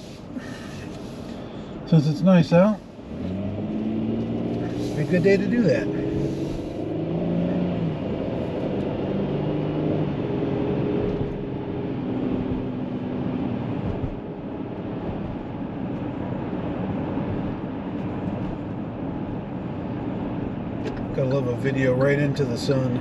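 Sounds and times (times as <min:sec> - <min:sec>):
van engine and road rumble: 0:00.0 - 0:23.0.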